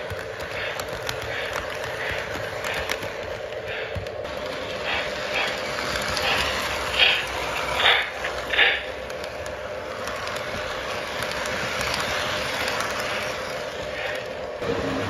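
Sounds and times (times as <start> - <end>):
hissing chuffs: 0.0 - 15.0
model train wheels clattering: 0.0 - 15.0.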